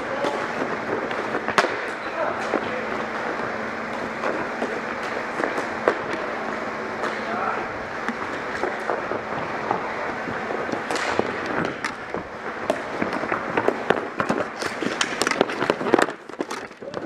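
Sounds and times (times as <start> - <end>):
hockey sticks clacking: 0.0 - 17.0.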